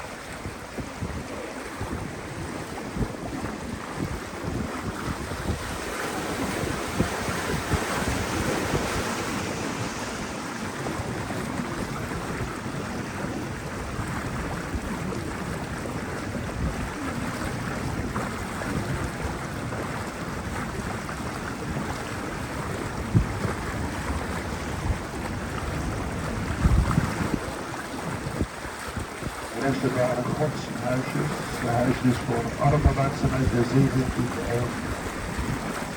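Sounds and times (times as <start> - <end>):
boat motor and water rushing: 0.0 - 35.9
wind buffeting microphone: 0.0 - 35.9.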